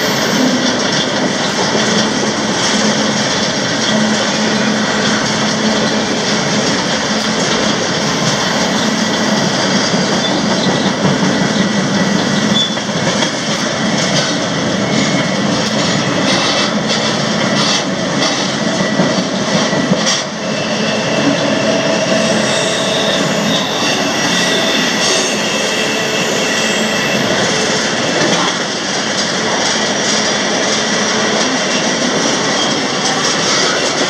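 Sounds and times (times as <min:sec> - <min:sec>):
freight train rumbling on rails: 0:00.0 - 0:34.0.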